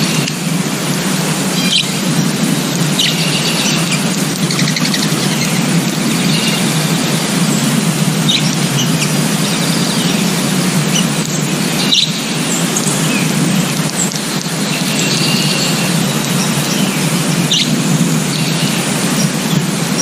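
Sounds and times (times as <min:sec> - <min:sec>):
birds chattering and squealing: 0:00.0 - 0:20.0
high bird chirps: 0:01.5 - 0:07.3, 0:08.2 - 0:13.3, 0:13.9 - 0:20.0.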